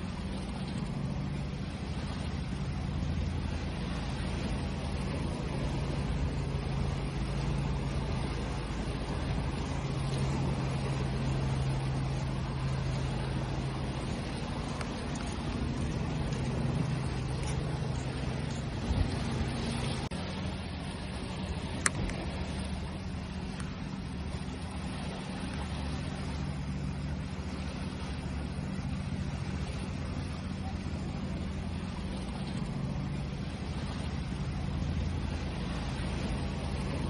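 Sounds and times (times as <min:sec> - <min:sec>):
low motor hum: 0:00.0 - 0:37.0
sea waves washing: 0:00.0 - 0:37.0.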